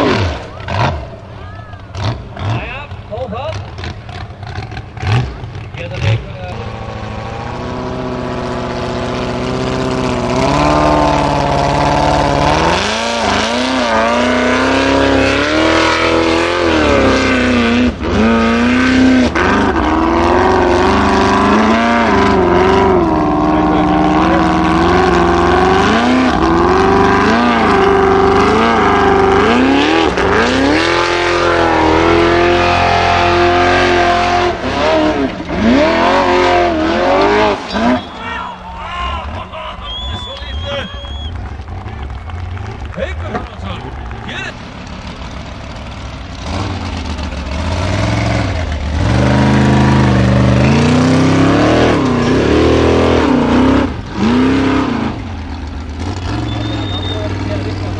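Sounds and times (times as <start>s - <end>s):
buggy engine revving: 0.0s - 57.9s.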